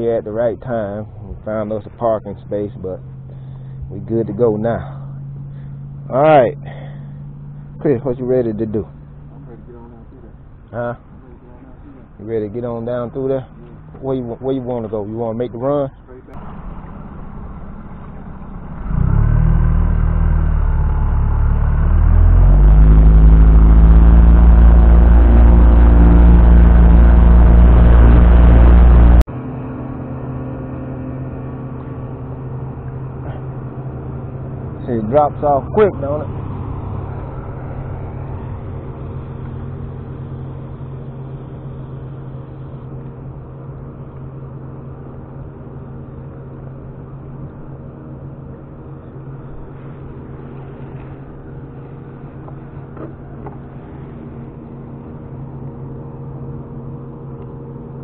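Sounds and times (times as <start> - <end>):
outboard motor running: 0.0 - 15.8, 16.4 - 58.0.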